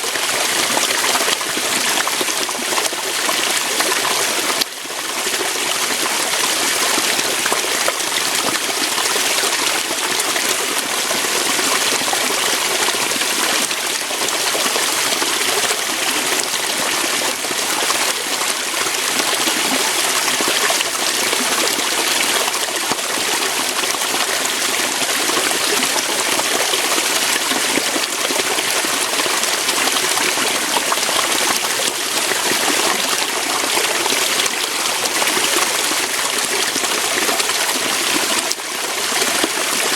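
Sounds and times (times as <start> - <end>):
waterfall splashing over rocks: 0.0 - 39.9.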